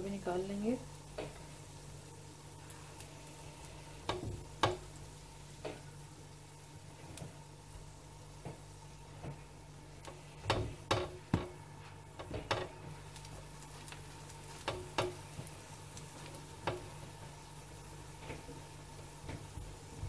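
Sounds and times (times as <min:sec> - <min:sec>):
light sizzle of frying: 0:00.0 - 0:20.0.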